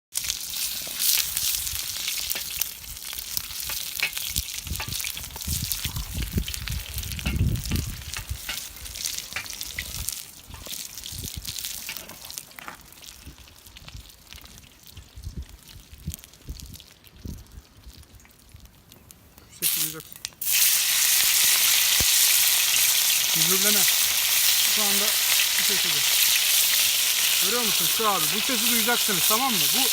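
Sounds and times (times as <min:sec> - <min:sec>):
meat sizzling in a pan: 0:00.1 - 0:16.9, 0:19.6 - 0:29.9.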